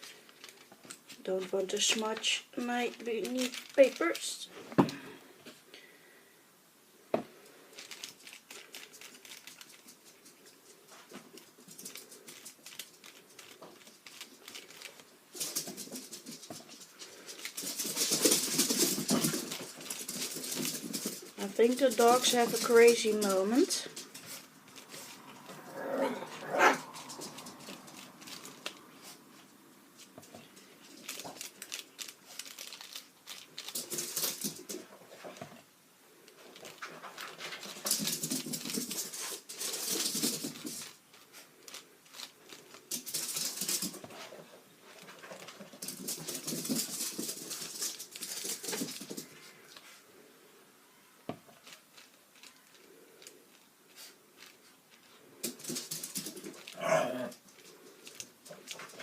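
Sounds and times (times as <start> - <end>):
dogs playing noisily: 7.4 - 50.3, 51.5 - 59.0.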